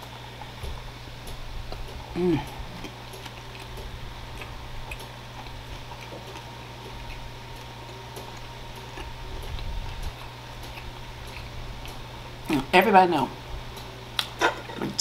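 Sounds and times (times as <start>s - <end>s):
person chewing with mouth clicks: 0.0s - 12.7s
steady low hum: 0.0s - 15.0s.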